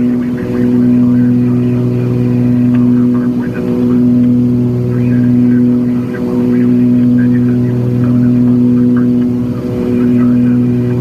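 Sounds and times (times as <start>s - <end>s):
aircraft engines droning in cabin: 0.0s - 11.0s.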